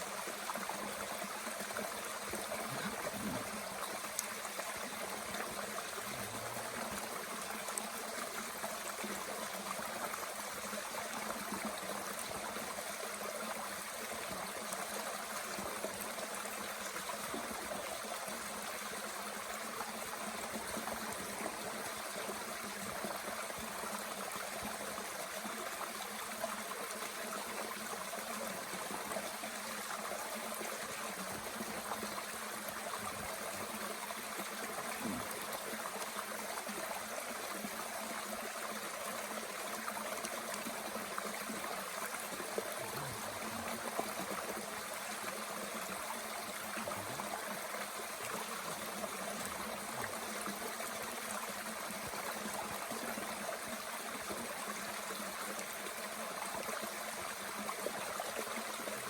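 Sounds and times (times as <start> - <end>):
mountain stream running: 0.0 - 59.0.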